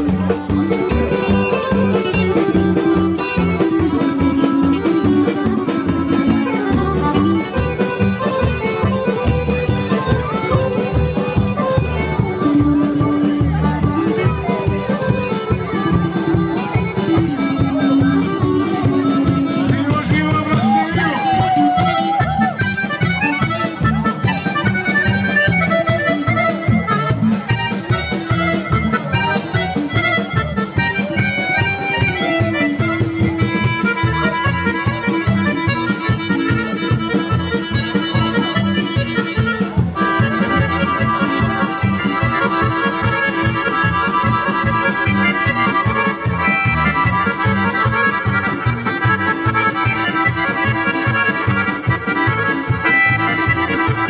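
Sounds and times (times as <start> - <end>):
accordion-led folk dance music: 0.0 - 54.0.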